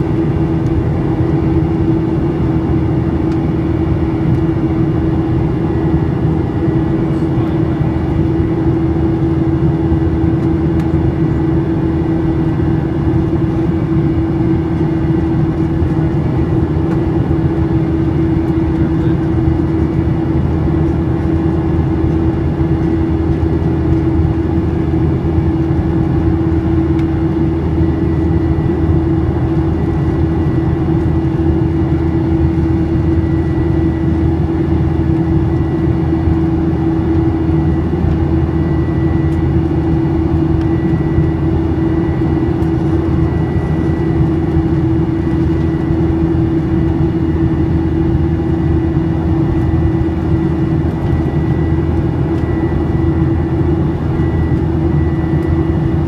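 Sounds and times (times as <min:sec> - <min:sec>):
airplane engine drone in cabin: 0:00.0 - 0:56.0.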